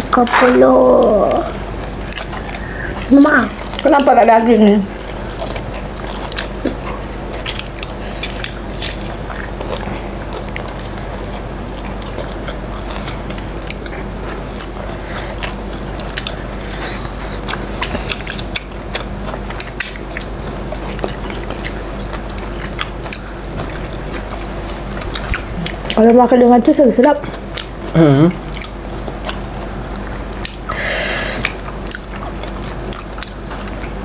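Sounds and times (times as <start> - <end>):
people chewing crispy chicken: 0.0 - 34.0.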